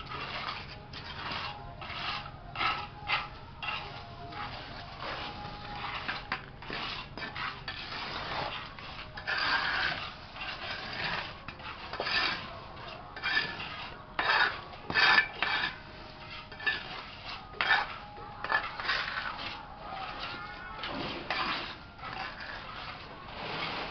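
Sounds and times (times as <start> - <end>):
trowel scraping wet mortar: 0.0 - 23.9.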